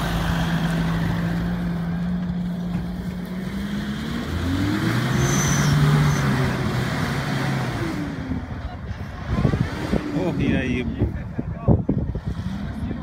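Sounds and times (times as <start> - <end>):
pickup engine revving: 0.0 - 11.2.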